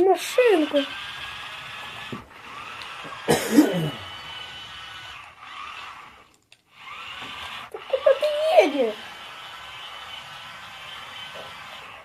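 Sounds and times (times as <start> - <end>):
toy car motor whining: 0.0 - 12.0.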